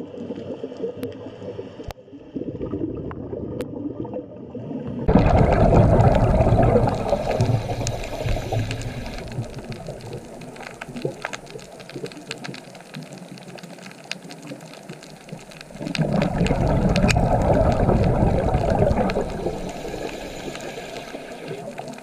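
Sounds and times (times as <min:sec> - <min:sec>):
underwater clicks and crackles: 0:00.0 - 0:02.0, 0:05.0 - 0:22.0
bubbling rumble: 0:00.0 - 0:22.0.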